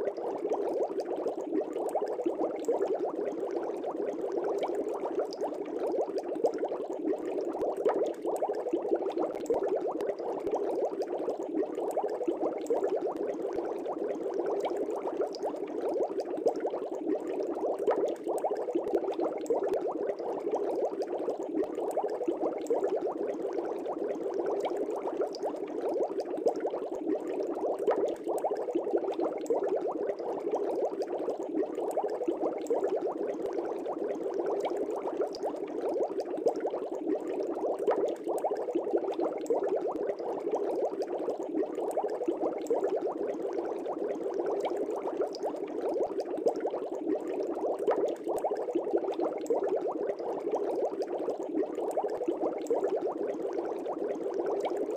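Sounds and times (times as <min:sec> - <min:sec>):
aquarium air bubbling: 0:00.0 - 0:54.9.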